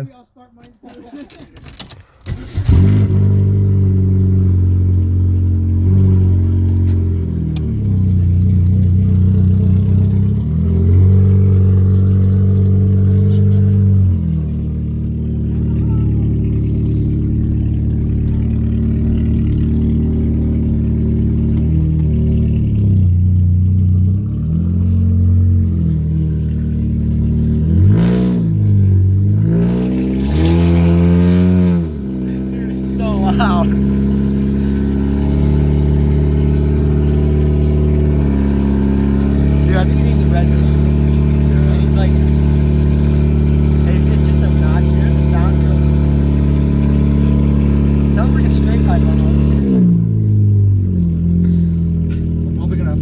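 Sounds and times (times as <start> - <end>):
loud car exhaust accelerating: 2.3 - 53.0.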